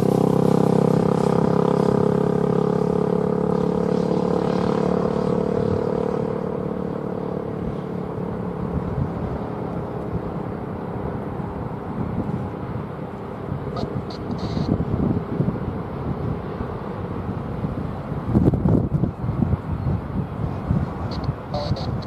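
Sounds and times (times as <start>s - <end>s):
diesel locomotives droning: 0.0s - 22.0s
passing train rumble: 0.0s - 22.0s.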